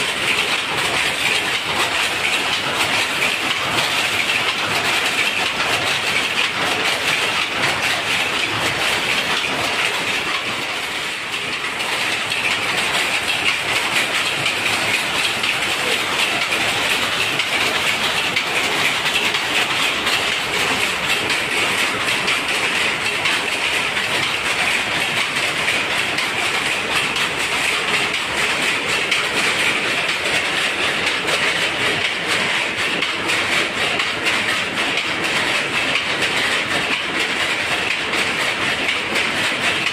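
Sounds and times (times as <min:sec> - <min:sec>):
power looms clattering: 0:00.0 - 0:39.9.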